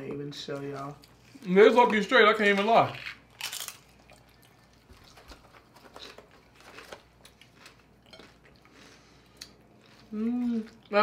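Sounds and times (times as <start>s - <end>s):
faint chewing with crunches: 0.5s - 11.0s.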